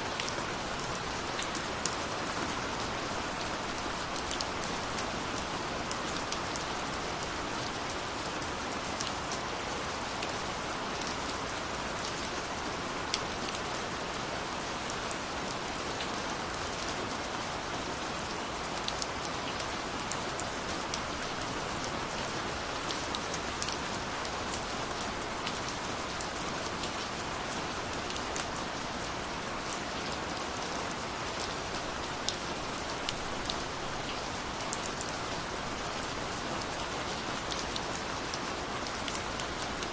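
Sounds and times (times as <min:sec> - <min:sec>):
steady rain: 0:00.0 - 0:39.9
raindrops ticking on a surface: 0:00.1 - 0:39.9.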